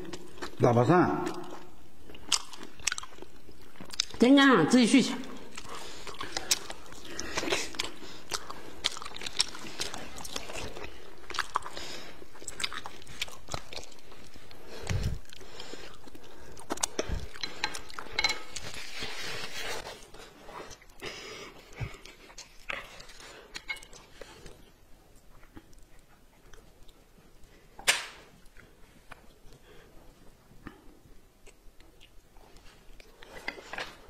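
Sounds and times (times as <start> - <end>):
person chewing crunchy food: 0.0 - 0.6, 1.2 - 4.2, 5.4 - 27.7, 30.6 - 34.0.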